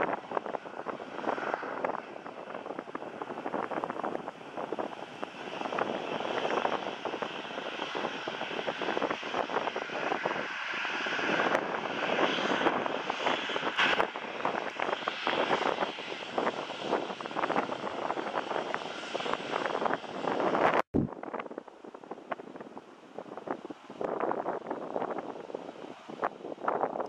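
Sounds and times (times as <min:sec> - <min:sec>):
jet engines rushing: 0:00.0 - 0:27.0
jet fan whine: 0:00.0 - 0:27.0.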